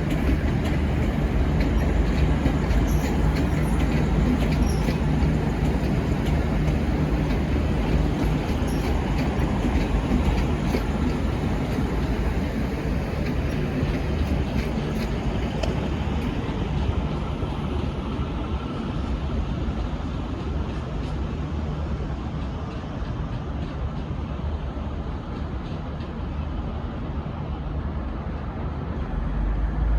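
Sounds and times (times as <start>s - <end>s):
train rumbling along tracks: 0.0s - 29.9s.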